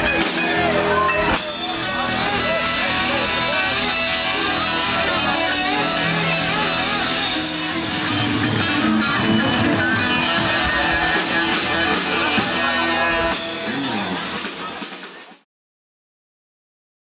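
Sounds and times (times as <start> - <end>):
electric guitar lines: 0.0 - 15.0
live country band playing: 0.0 - 15.3.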